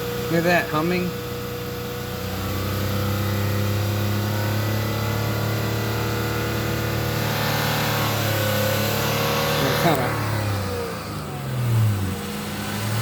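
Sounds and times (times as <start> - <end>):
car engine humming: 0.0 - 13.0
faint engine whine: 0.0 - 13.0.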